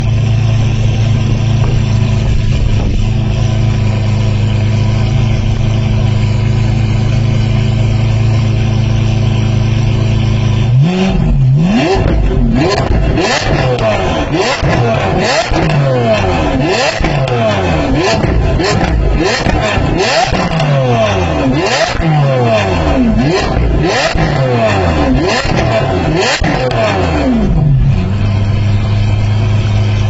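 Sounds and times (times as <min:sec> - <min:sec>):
car engine idling: 0:00.0 - 0:30.0
car engine revving: 0:00.0 - 0:30.0.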